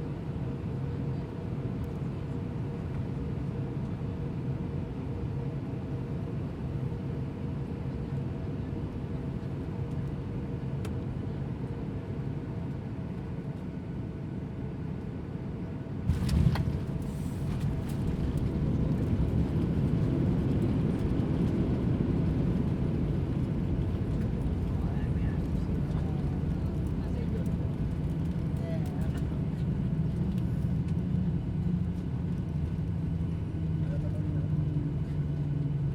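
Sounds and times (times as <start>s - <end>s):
airliner cabin engine drone: 0.0s - 35.9s.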